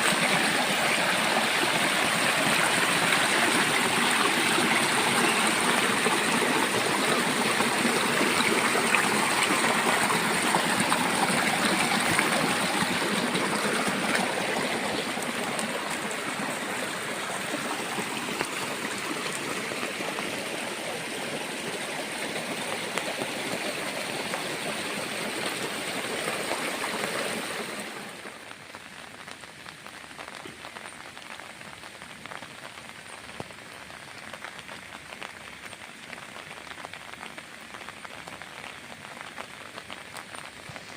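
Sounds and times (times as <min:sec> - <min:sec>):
rain falling: 0:00.0 - 0:40.9
raindrops pattering: 0:00.0 - 0:40.9.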